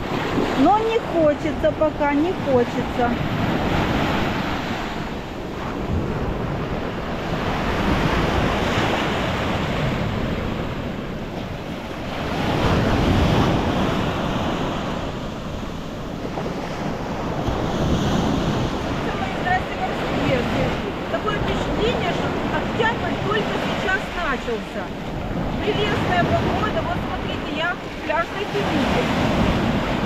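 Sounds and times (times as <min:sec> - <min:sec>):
waves washing onto beach: 0:00.0 - 0:30.0
wind buffeting microphone: 0:00.0 - 0:30.0.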